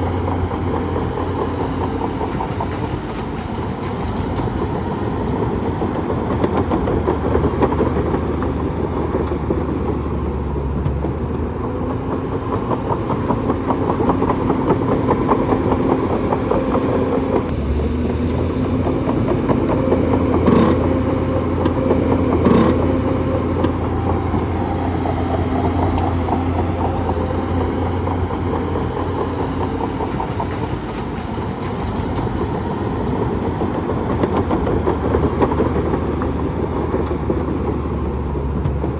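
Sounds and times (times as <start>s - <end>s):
bulldozer diesel engine drone: 0.0s - 38.9s
steel tracks clattering: 0.0s - 38.9s.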